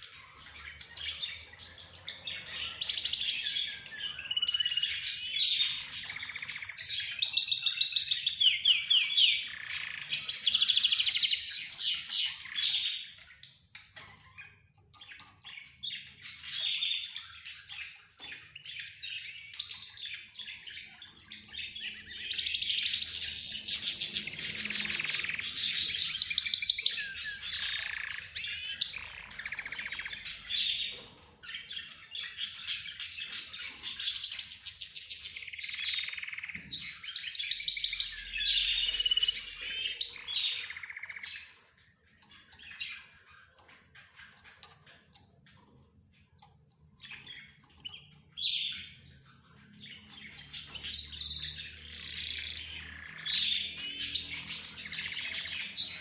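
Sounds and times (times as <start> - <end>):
caged birds chirping and warbling: 0.0 - 56.0.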